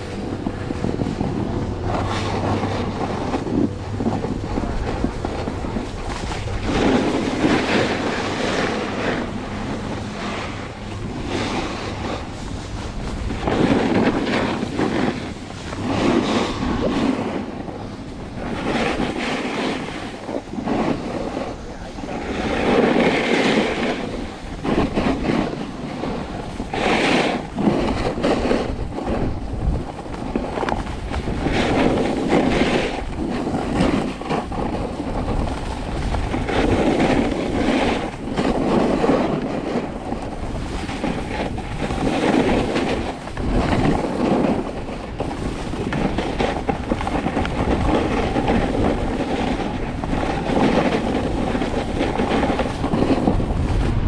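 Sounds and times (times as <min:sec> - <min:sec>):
snowboard edge scraping snow: 0:00.0 - 0:54.0
wind on microphone: 0:00.0 - 0:54.0.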